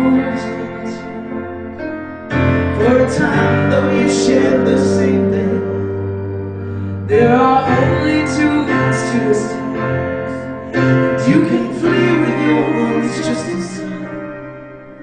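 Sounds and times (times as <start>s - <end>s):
stage piano: 0.0s - 15.0s.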